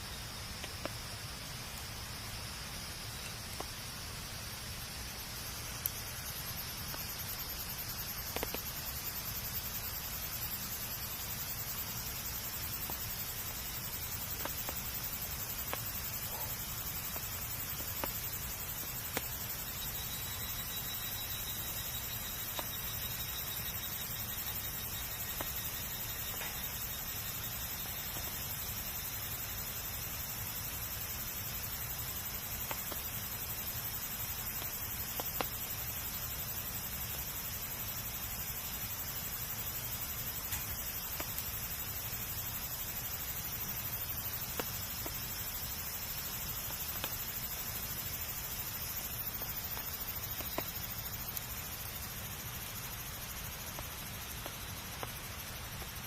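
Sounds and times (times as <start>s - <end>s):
campfire hissing: 0.0s - 56.0s.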